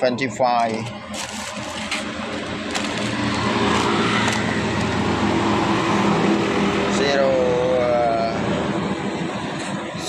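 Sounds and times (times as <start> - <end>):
vehicle engine running: 0.6 - 10.0.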